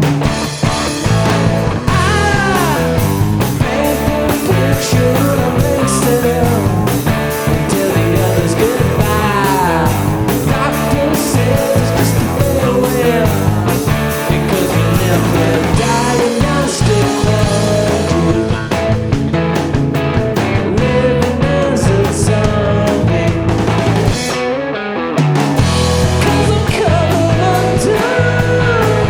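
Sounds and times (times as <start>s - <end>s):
rock band playing: 0.0s - 29.0s
lead guitar pitch bends: 0.6s - 26.9s.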